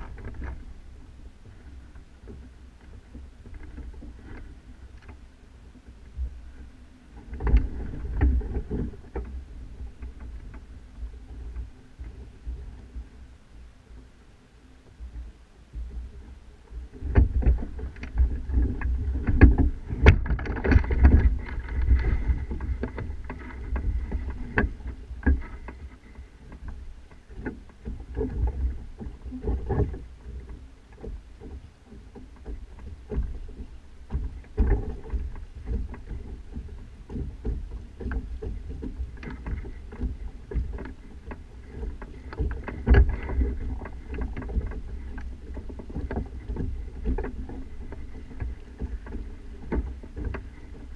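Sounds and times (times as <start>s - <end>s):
wind rumbling on microphone: 0.0s - 50.9s.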